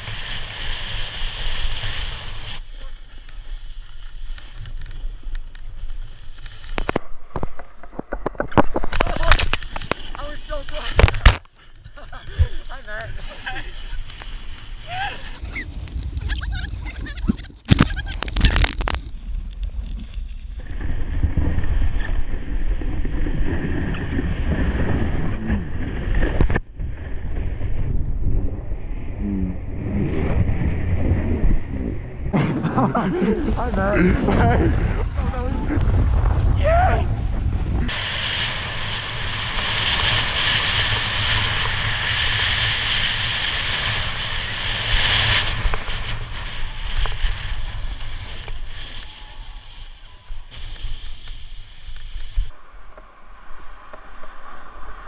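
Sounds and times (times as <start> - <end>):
snowboard scraping snow: 0.0 - 7.0, 8.9 - 28.9, 32.4 - 55.0
wind on microphone: 8.0 - 52.6.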